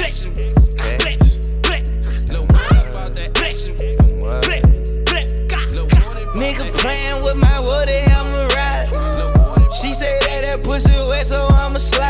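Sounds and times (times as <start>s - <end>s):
deep bass: 0.0s - 12.0s
ticking hi-hats: 0.0s - 12.0s.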